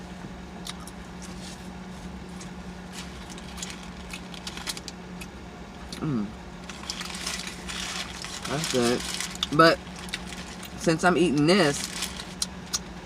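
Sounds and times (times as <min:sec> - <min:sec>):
car hum: 0:00.0 - 0:13.0.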